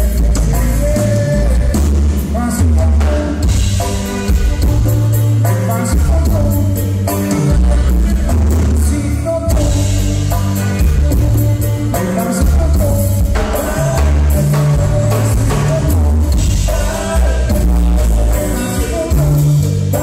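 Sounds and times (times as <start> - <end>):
button accordion melody: 0.0 - 20.0
congas: 0.0 - 20.0
drum kit: 0.0 - 20.0
electric bass line: 0.0 - 20.0.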